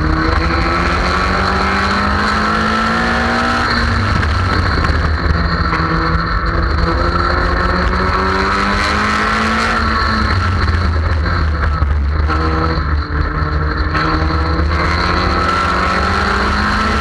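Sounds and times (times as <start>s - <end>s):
car engine accelerating: 0.0s - 17.0s
wind and road noise: 0.0s - 17.0s.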